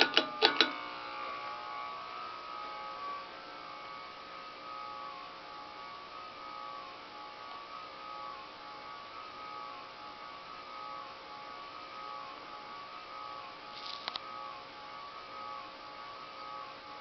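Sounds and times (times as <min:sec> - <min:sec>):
ceiling fan buzzing: 0:00.0 - 0:17.0.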